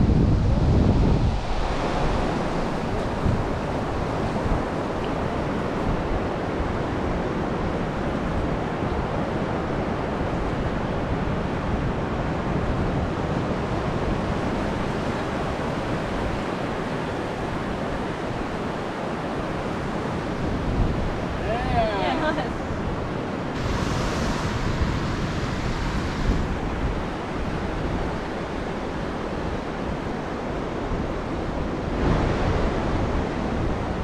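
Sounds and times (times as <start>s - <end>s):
surf washing over sand: 0.0s - 34.0s
wind on microphone: 0.0s - 34.0s.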